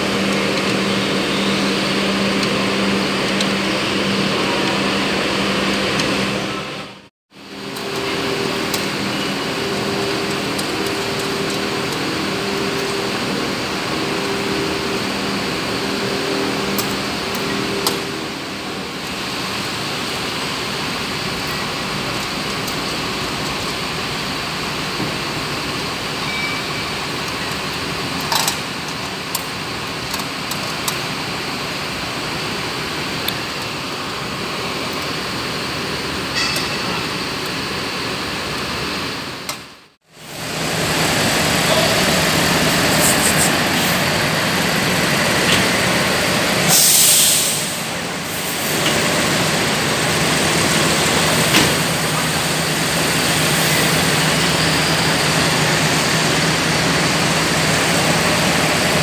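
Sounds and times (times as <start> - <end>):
machinery running: 0.0 - 59.0.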